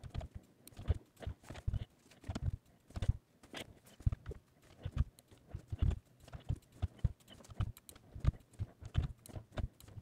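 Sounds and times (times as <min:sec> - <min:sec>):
keyboard and mouse clicking: 0:00.0 - 0:10.0.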